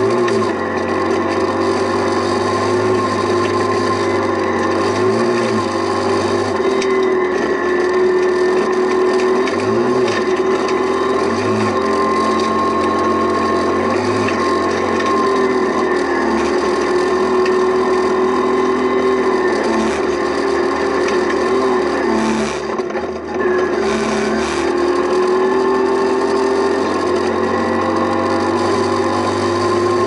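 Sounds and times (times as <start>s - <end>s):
car clicks and rattles on gravel: 0.0s - 25.7s
rally car engine revving high: 0.0s - 30.0s.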